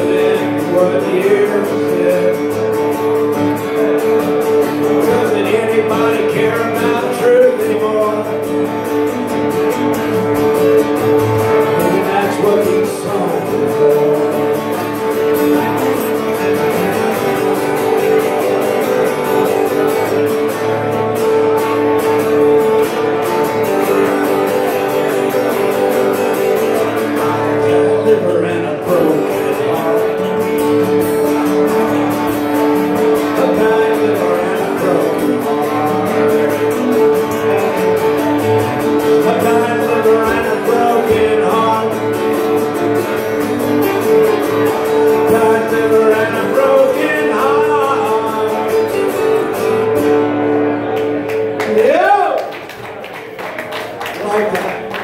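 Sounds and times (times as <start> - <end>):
man singing: 0.0 - 20.2, 22.2 - 49.9, 51.7 - 52.5
acoustic guitar strumming: 0.0 - 53.0.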